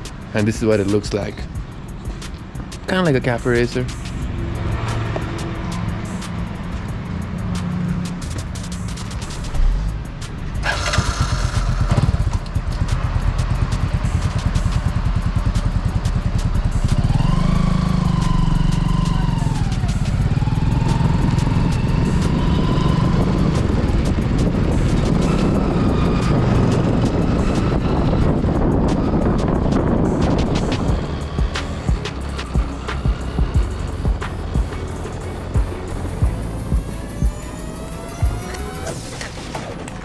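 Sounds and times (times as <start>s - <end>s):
motorcycle engine riding: 0.0s - 40.0s.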